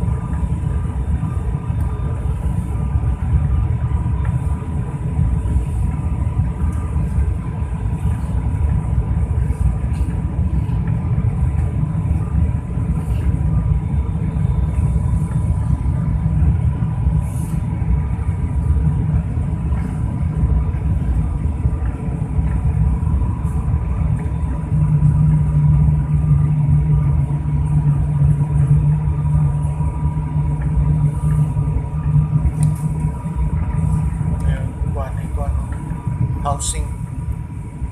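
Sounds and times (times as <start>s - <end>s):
deeper hum: 0.0s - 37.9s
engine and airflow roar: 0.0s - 37.9s
thin steady whine: 0.0s - 37.9s.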